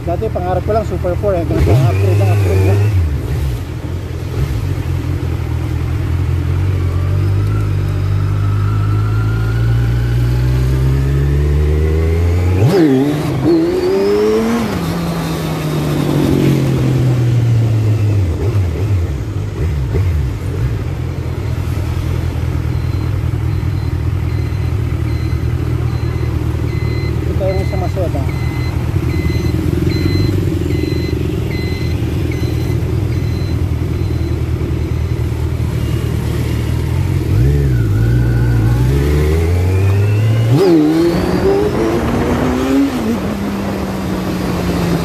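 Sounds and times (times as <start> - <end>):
motorcycle engine revving and idling: 0.0 - 45.0.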